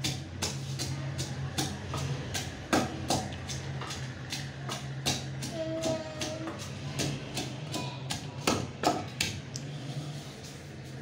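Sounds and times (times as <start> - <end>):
wooden pestle pounding in mortar: 0.0 - 9.6.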